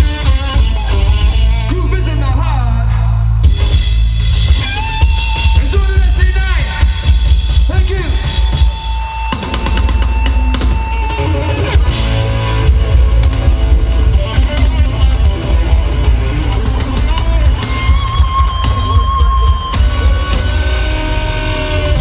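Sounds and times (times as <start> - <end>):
drum kit: 0.0 - 22.0
electric bass: 0.0 - 22.0
electric guitar: 0.0 - 22.0.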